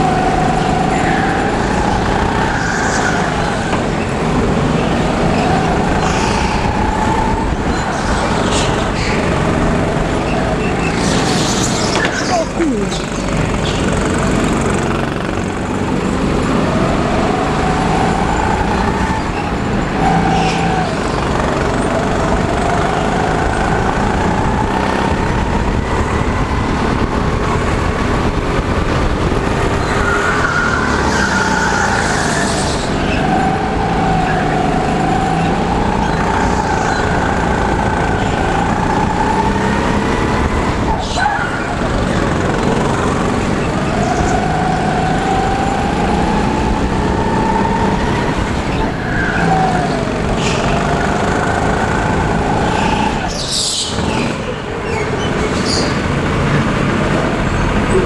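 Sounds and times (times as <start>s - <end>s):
go-kart motor revving: 0.0s - 58.0s
wind and tyre rumble: 0.0s - 58.0s.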